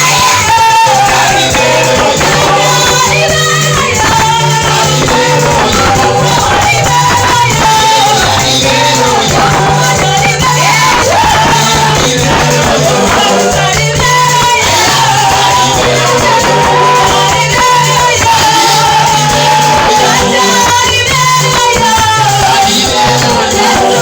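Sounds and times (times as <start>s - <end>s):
person singing: 0.0s - 24.0s
repeating bass line: 0.0s - 24.0s
shaker-like percussion: 0.0s - 24.0s
steady drum beat: 0.0s - 24.0s.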